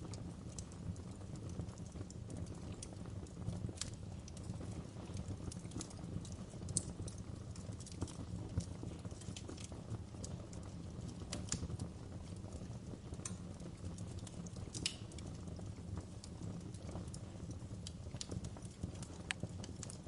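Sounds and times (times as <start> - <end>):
campfire crackling and popping: 0.0 - 20.0
low rumble of fire: 0.0 - 20.0.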